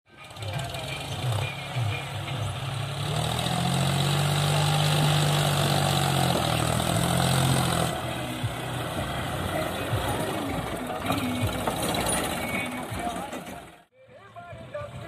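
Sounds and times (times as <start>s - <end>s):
tractor diesel engine running: 0.1s - 15.0s.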